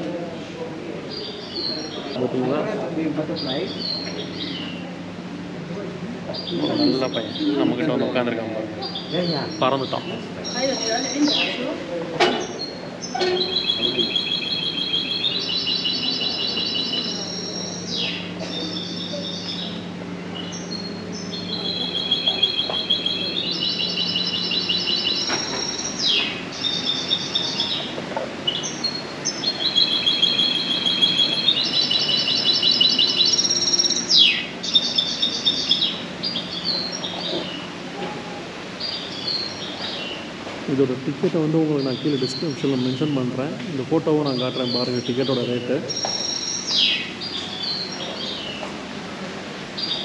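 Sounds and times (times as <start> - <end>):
steady low hum: 0.0 - 50.0
birds chirping and trilling: 1.1 - 5.0, 6.3 - 37.9, 38.5 - 48.7, 49.7 - 50.0.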